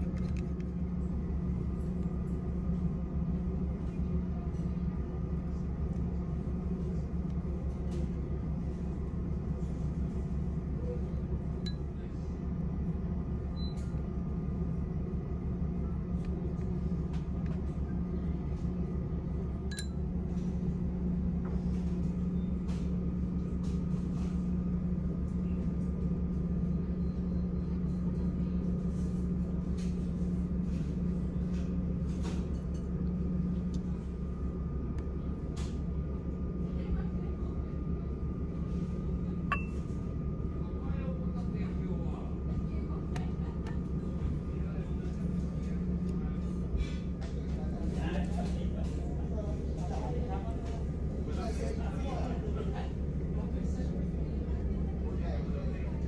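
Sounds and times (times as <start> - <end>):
ship machinery hum: 0.0 - 56.0.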